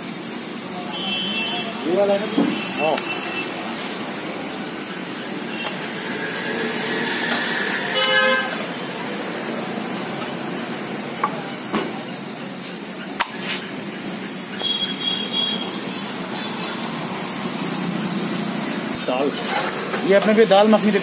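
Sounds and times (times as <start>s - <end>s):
roadside traffic noise: 0.0s - 21.0s.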